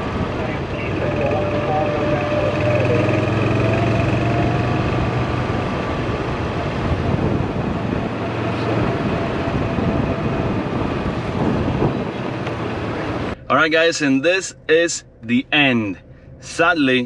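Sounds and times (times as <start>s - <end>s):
golf cart driving: 0.0s - 17.0s.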